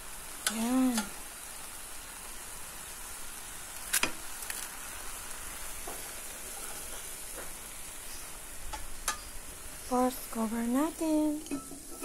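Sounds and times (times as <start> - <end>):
leaves sizzling in a pan: 0.0 - 12.0.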